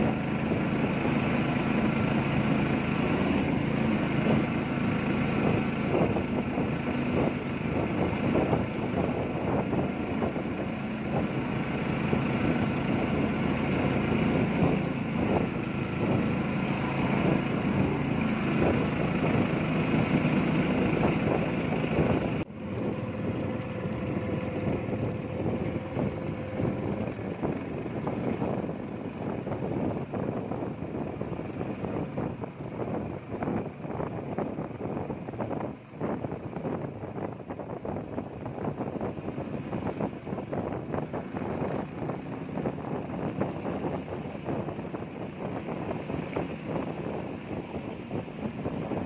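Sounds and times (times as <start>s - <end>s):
small boat engine running: 0.0s - 49.0s.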